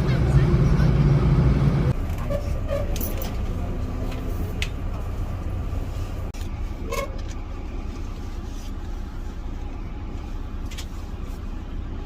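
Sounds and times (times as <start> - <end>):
vehicle interior rumble: 0.0 - 12.0.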